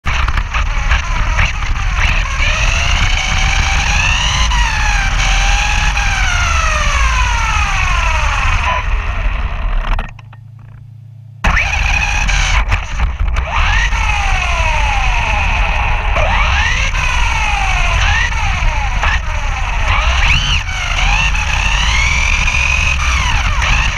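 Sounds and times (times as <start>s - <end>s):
chassis and tyres rumbling: 0.0s - 23.9s
electric motor whining: 0.0s - 23.9s.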